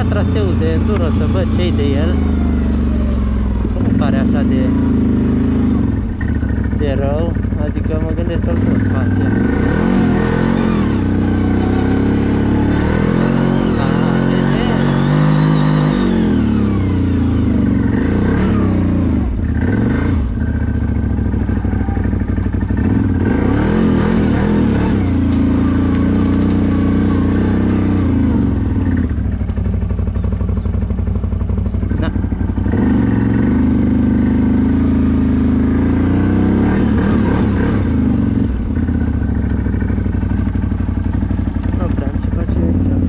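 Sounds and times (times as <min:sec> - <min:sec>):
atv engine revving: 0:00.0 - 0:43.0.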